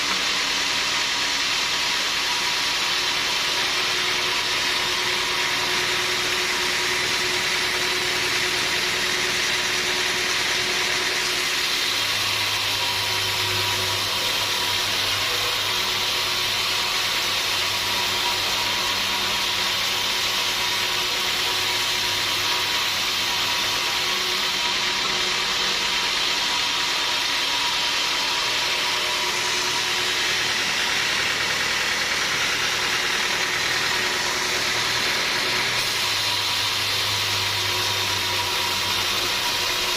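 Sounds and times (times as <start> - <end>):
sawmill machinery whirring: 0.0 - 39.9.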